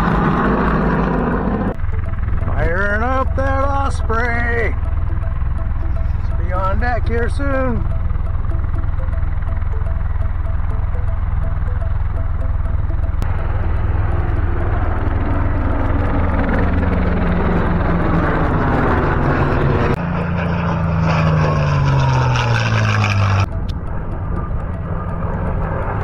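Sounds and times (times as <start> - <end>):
propeller airplanes flying past: 0.0 - 26.0.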